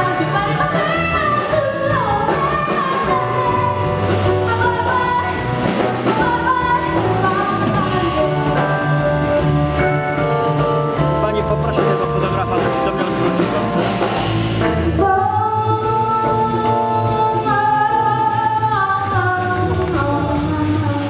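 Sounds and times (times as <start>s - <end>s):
woman singing jazz: 0.0s - 11.0s, 11.8s - 21.0s
double bass: 0.0s - 21.0s
drum kit with cymbals: 0.0s - 21.0s
piano: 0.0s - 21.0s.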